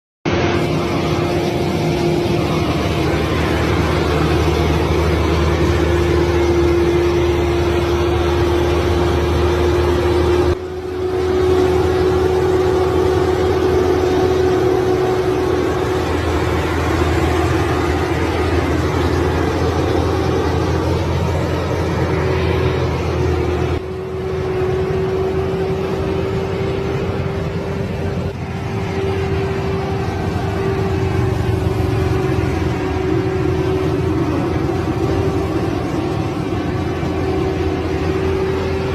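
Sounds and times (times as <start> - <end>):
excavator diesel engine running: 0.2 - 38.9.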